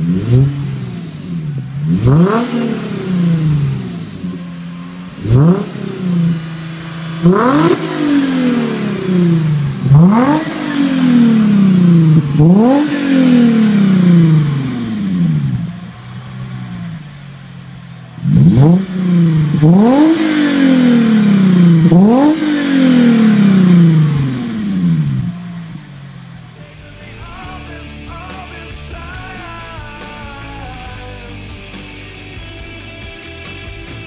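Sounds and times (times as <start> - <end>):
car engine revving: 0.0 - 34.0
rock music: 0.0 - 34.0.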